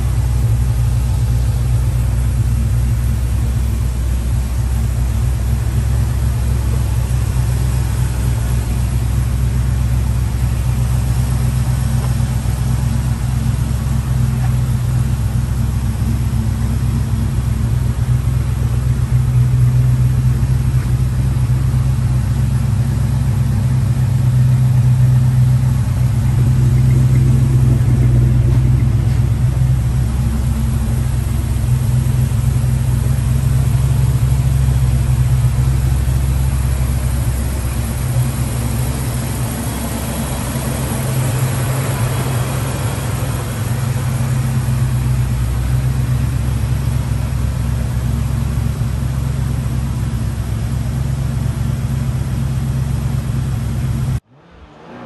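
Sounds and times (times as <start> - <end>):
engine idling through exhaust: 0.0 - 54.6.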